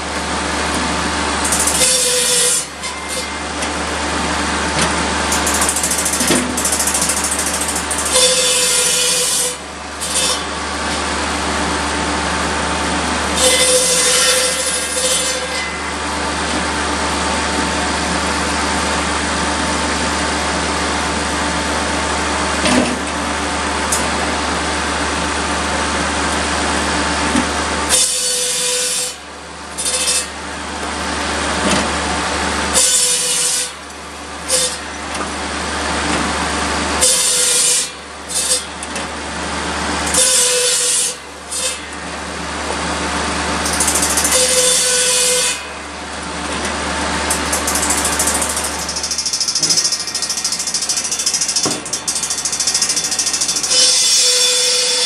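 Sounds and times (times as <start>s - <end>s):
circular saw cutting wood: 0.0s - 22.1s, 27.7s - 31.1s, 32.7s - 35.0s, 36.4s - 38.8s, 39.5s - 55.0s
diesel tractor engine drone: 0.0s - 28.2s, 29.2s - 54.6s.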